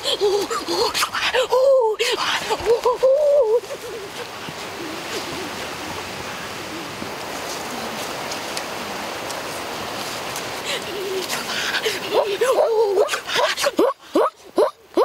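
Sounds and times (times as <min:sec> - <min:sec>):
stream running water: 0:00.0 - 0:15.0.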